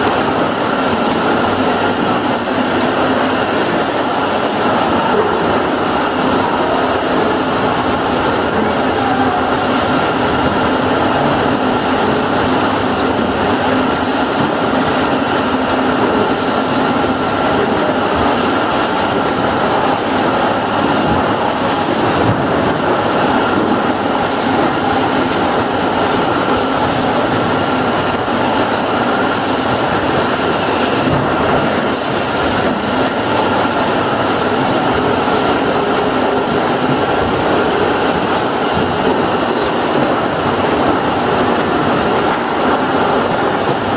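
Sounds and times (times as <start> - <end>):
machine drone: 0.0 - 43.9.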